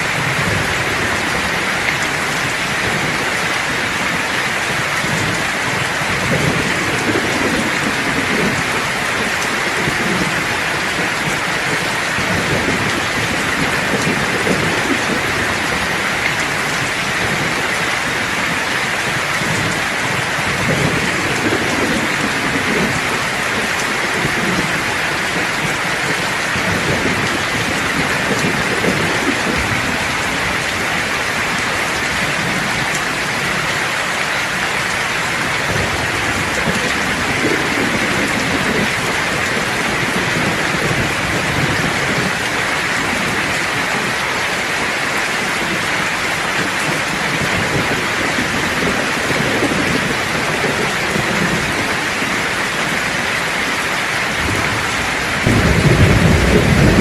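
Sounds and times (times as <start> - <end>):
low thunder rumbling: 0.0 - 33.8, 34.5 - 44.2, 45.4 - 57.0
heavy rain pattering: 0.0 - 57.0.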